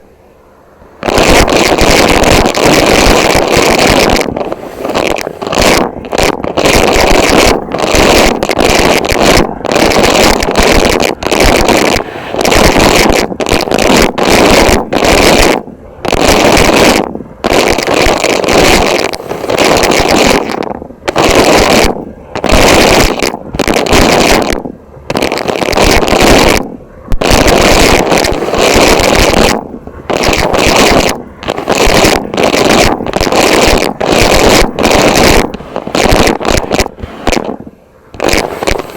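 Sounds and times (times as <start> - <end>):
loud distorted vacuum cleaner: 1.0 - 37.6, 38.2 - 38.9.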